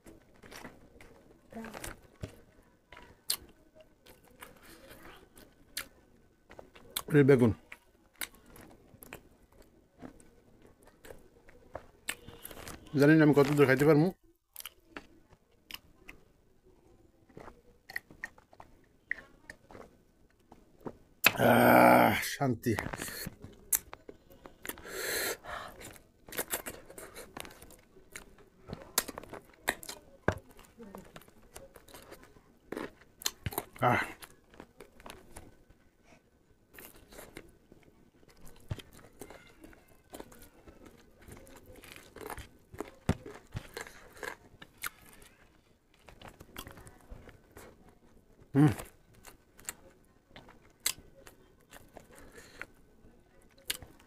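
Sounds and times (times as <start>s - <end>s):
person chewing: 0.0s - 7.1s, 7.7s - 13.9s, 14.5s - 15.1s, 17.3s - 22.2s, 22.8s - 35.8s, 36.7s - 52.8s, 53.5s - 54.0s.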